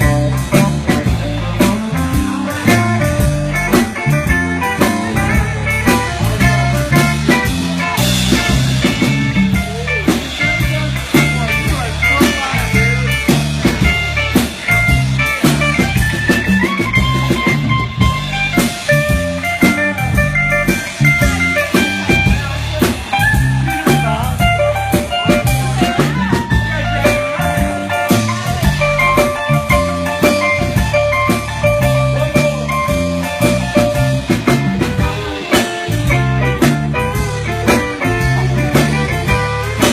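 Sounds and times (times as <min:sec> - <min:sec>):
blues band playing: 0:00.0 - 0:39.9
held guitar notes: 0:00.0 - 0:39.9.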